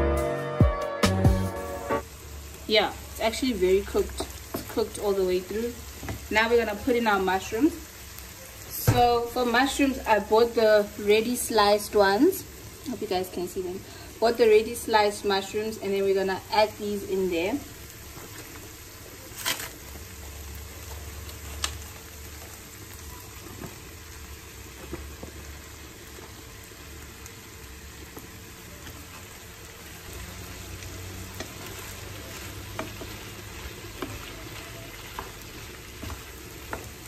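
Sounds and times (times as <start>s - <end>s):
food sizzling in a frying pan: 1.6s - 37.0s.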